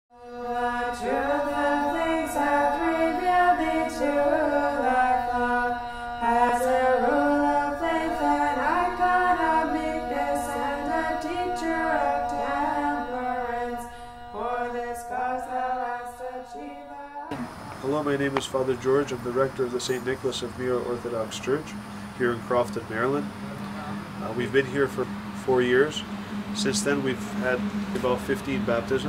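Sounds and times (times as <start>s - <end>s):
held drone note: 0.1s - 29.0s
sung chant melody: 0.1s - 29.0s.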